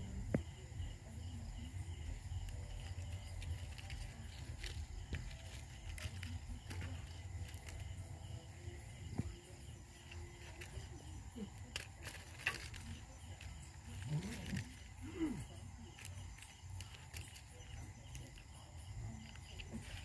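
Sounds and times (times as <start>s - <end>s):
insects chirping: 0.0s - 20.0s
cats pawing over stony dirt: 0.3s - 20.0s.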